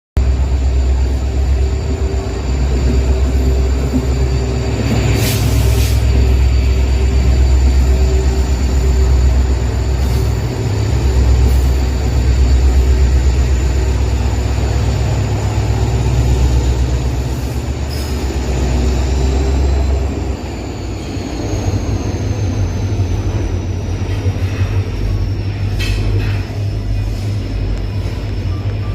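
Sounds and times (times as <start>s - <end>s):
diesel locomotive engine rumble: 0.2s - 28.9s
high whine: 0.2s - 28.9s.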